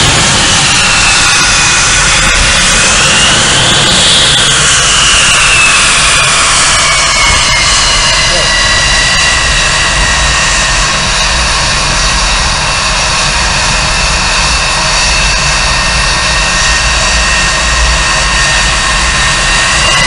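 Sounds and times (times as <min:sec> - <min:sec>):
jet engines roaring with high whine: 0:00.0 - 0:20.0.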